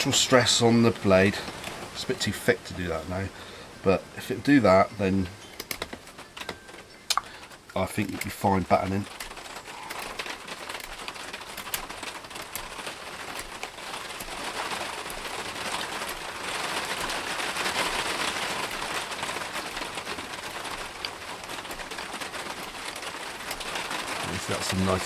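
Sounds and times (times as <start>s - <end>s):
wind and rain: 0.0s - 25.0s.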